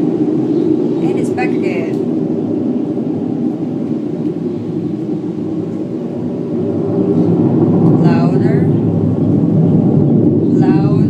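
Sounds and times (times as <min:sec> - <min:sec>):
low rumbling drone from sky: 0:00.0 - 0:11.0.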